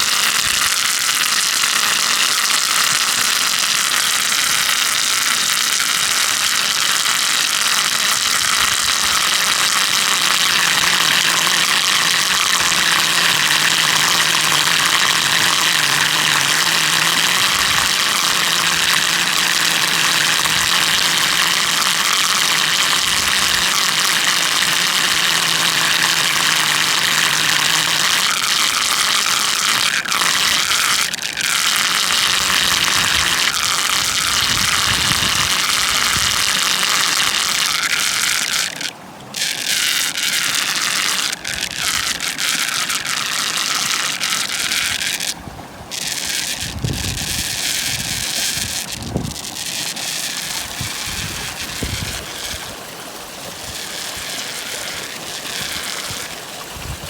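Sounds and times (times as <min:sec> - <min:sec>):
water gushing through dam: 0:00.0 - 0:57.0.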